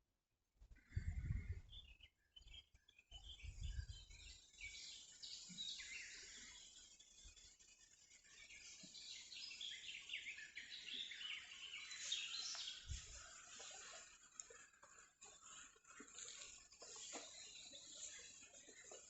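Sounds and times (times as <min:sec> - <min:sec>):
high downward-sliding bird chirps: 0:01.0 - 0:19.0.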